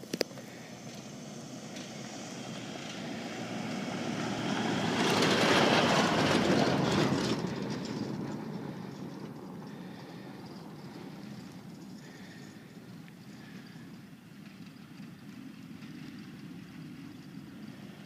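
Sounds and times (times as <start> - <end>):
vehicle driving past on sand: 0.0 - 18.0.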